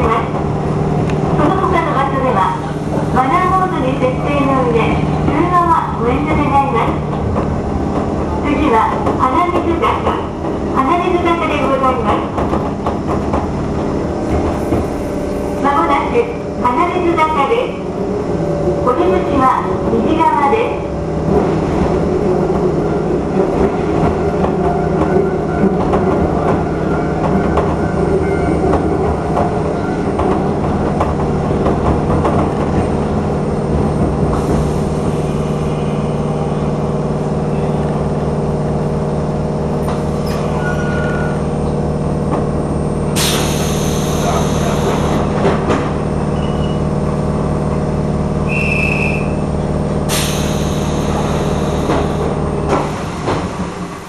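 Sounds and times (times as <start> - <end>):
train motor hum: 0.0 - 54.0.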